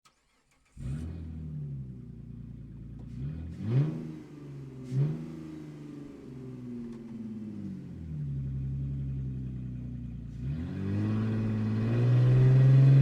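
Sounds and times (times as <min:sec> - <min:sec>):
sports car engine revving: 0:00.7 - 0:13.0.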